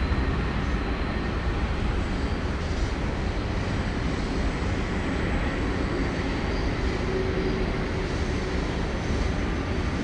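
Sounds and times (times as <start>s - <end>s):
freight train rumbling over bridge: 0.0s - 10.0s.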